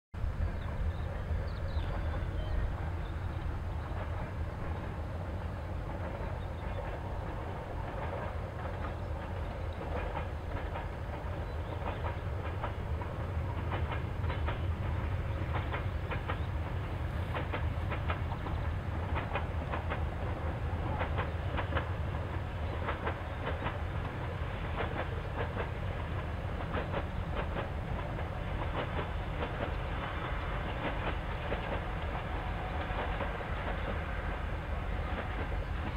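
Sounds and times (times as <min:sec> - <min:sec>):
diesel locomotive rumble: 0:00.2 - 0:35.9
train wheels clacking over rail joints: 0:03.8 - 0:35.9.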